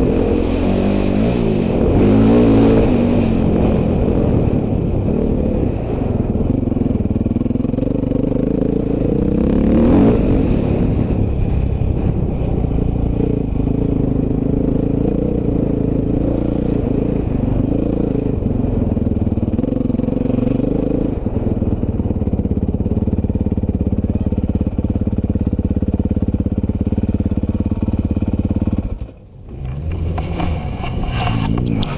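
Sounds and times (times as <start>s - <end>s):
dirt bike engine revving: 0.0s - 6.7s, 7.6s - 21.9s, 23.1s - 31.9s.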